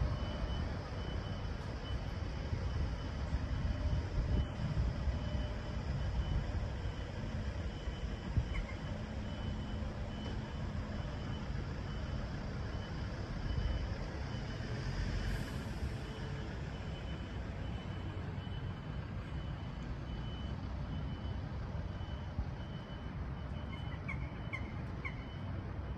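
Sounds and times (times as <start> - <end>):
large vehicle engine rumble: 0.0 - 25.9
reversing alarm beeping: 0.0 - 25.9.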